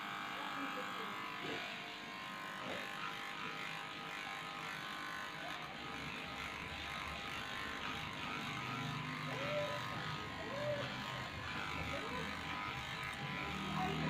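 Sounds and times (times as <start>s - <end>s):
electric dog clipper humming: 0.0s - 14.0s.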